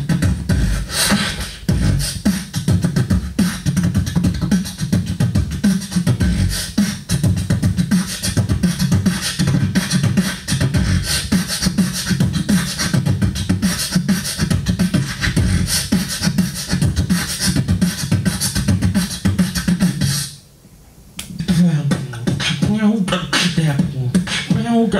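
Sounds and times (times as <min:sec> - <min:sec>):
beatboxing through microphone: 0:00.0 - 0:20.4, 0:21.2 - 0:24.9.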